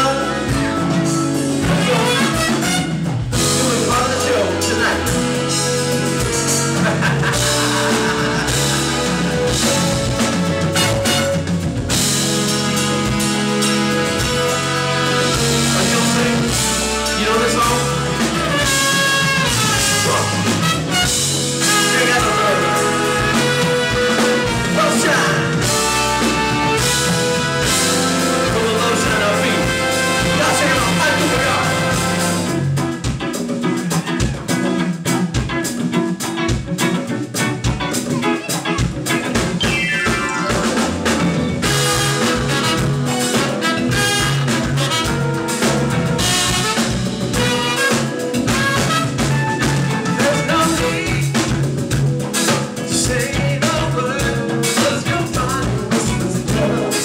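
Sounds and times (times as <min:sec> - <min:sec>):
live band music: 0:00.0 - 0:57.0.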